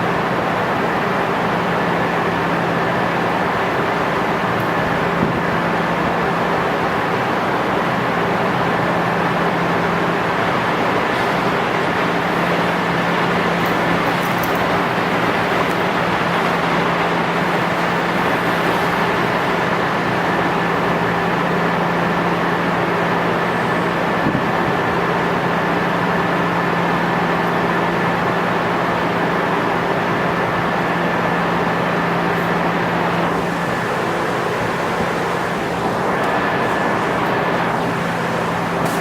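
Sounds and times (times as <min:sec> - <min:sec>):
electric train rumbling: 0:00.0 - 0:39.0
high whine: 0:00.0 - 0:39.0.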